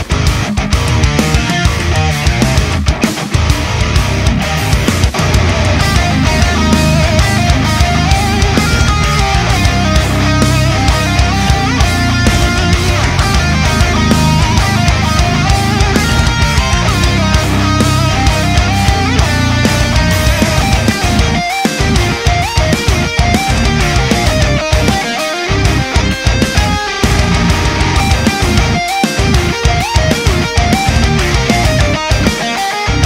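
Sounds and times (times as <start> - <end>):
distorted electric guitar: 0.0 - 33.0
fast drum beat: 0.0 - 33.0
heavy rock music: 0.0 - 33.0.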